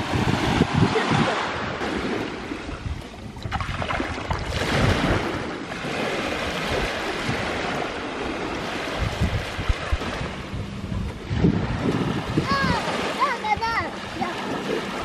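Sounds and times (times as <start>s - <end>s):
waves breaking on shore: 0.0s - 15.0s
wind rumbling on microphone: 0.0s - 15.0s.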